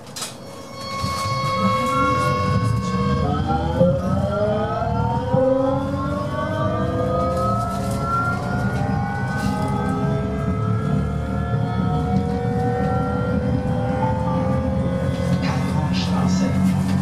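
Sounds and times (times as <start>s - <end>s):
tram drive whining: 0.0s - 17.0s.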